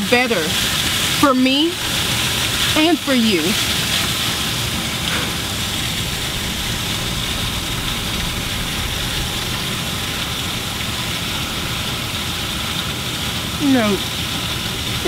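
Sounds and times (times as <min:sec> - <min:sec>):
low engine-like rumble: 0:01.0 - 0:15.0.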